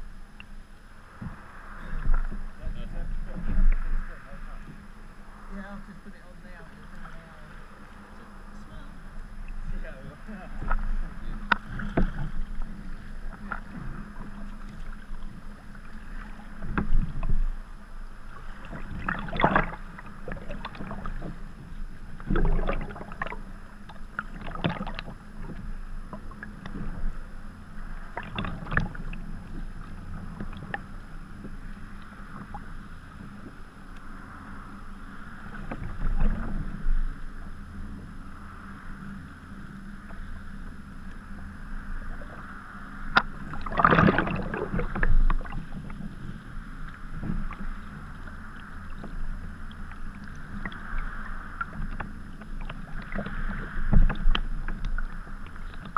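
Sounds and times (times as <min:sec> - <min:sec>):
water splashing against kayak: 0:00.0 - 0:55.9
wind: 0:00.0 - 0:55.9.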